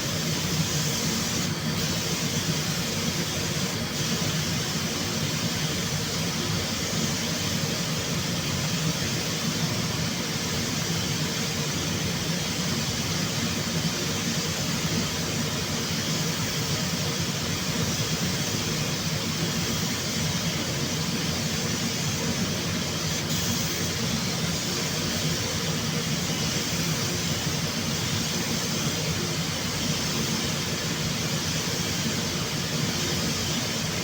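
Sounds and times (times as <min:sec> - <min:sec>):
machine hum and hiss: 0:00.0 - 0:34.0.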